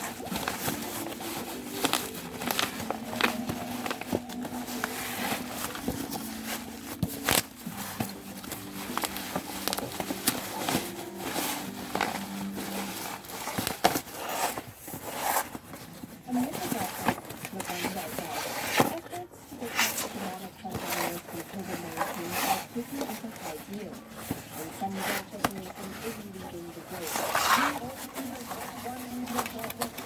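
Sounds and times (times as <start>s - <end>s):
packaging crinkling and crackling: 0.0s - 30.0s.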